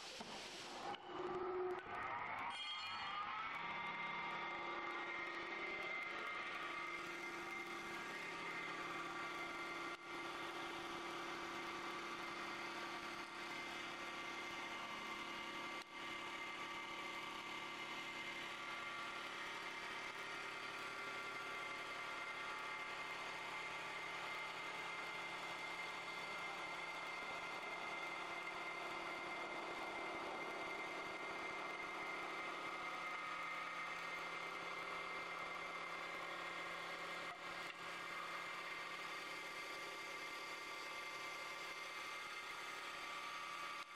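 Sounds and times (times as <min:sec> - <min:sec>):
lathe machine whine: 0:00.0 - 0:43.9
cutter shaving spinning wood: 0:03.3 - 0:43.9.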